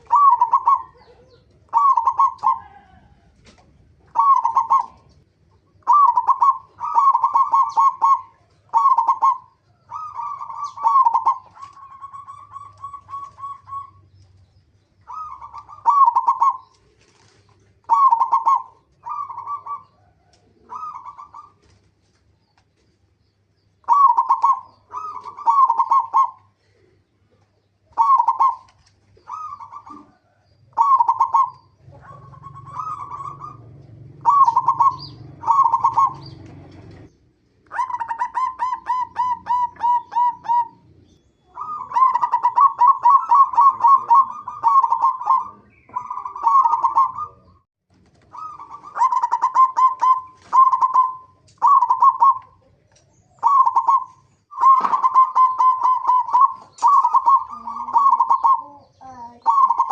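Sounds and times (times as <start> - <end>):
dove cooing: 0.0 - 14.4, 15.0 - 21.9, 23.8 - 59.9.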